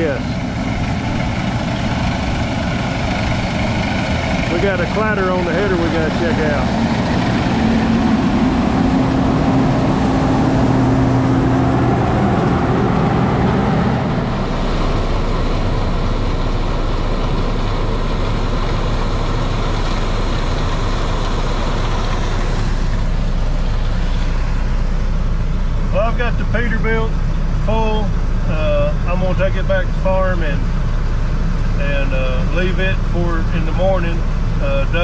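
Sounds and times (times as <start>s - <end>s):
combine harvester running: 0.0s - 35.0s.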